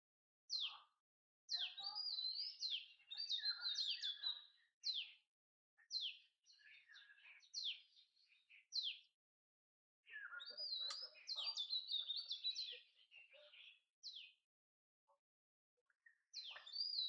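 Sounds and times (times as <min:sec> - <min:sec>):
birds twittering and warbling: 0:00.5 - 0:09.2, 0:10.0 - 0:14.4, 0:15.9 - 0:17.0.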